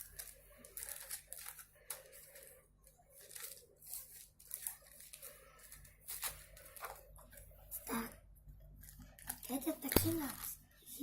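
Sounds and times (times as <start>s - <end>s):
rustling and crinkling: 0.0s - 10.7s.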